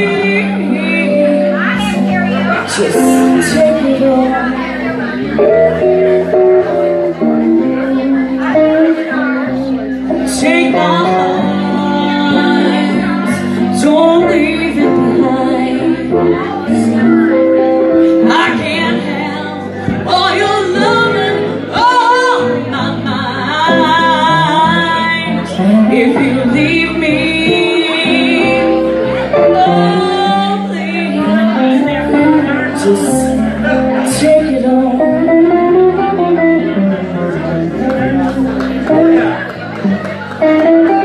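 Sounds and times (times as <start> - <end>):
woman singing blues: 0.0 - 38.0
guitar accompaniment: 0.0 - 41.0.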